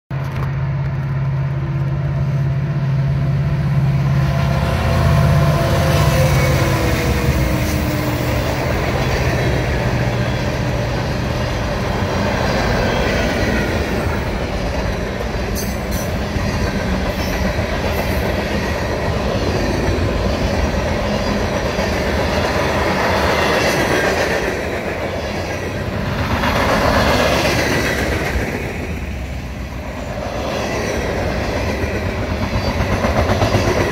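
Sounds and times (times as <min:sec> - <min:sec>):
diesel locomotive engine drone: 0:00.1 - 0:33.9
train wheels clattering on rails: 0:04.3 - 0:33.9.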